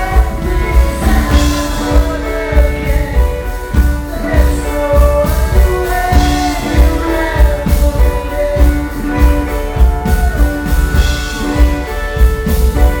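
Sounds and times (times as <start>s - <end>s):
guitar chords: 0.0s - 13.0s
person singing: 0.0s - 13.0s
kick drum beat: 0.1s - 13.0s.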